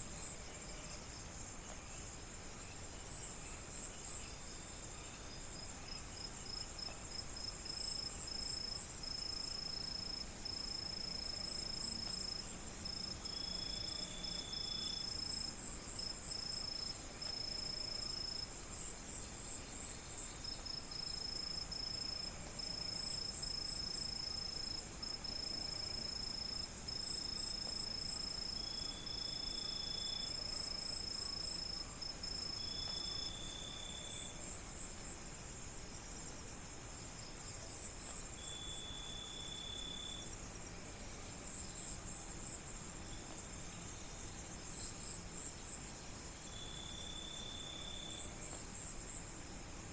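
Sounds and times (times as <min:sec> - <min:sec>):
high steady insect trill: 0:00.0 - 0:49.9
shimmering insect chorus: 0:00.0 - 0:49.9.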